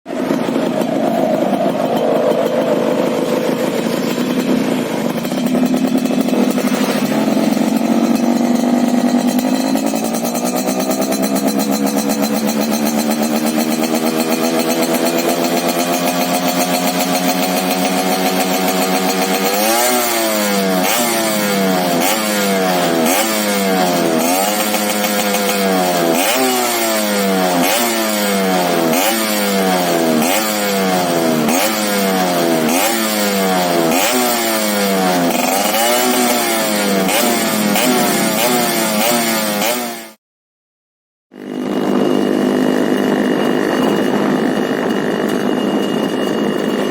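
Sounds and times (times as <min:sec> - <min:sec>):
two-stroke motorcycle engine revving: 0:00.0 - 0:40.2, 0:41.3 - 0:46.9.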